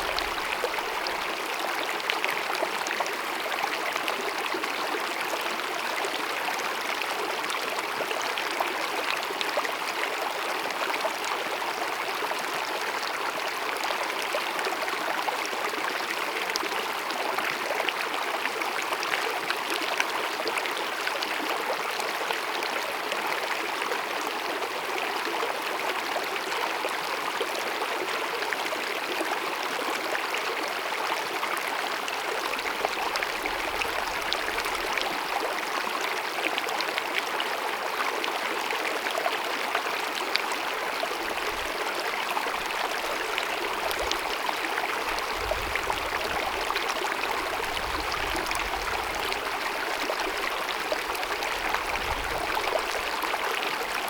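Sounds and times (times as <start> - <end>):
stream babbling and cascading: 0.0 - 54.0.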